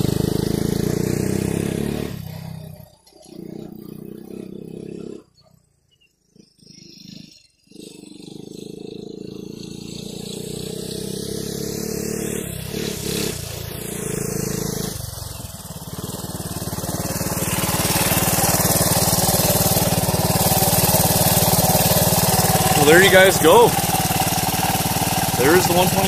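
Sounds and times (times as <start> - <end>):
three-wheeler engine running: 0.0 - 26.0.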